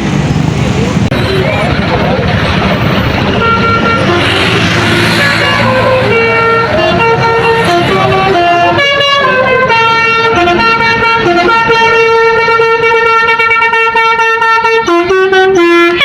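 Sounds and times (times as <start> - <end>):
bus engine rumbling: 0.0 - 16.0
musical bus horn tune: 3.0 - 16.0.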